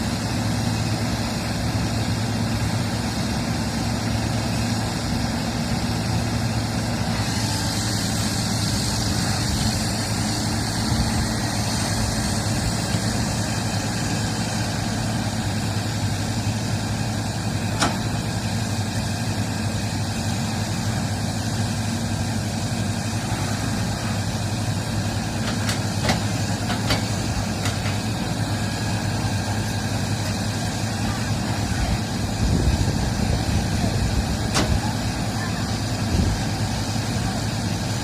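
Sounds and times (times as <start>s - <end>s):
diesel engine rumbling: 0.0s - 38.0s.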